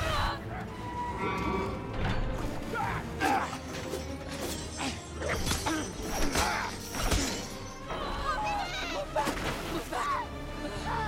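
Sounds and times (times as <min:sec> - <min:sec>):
film soundtrack music: 0:00.0 - 0:11.0.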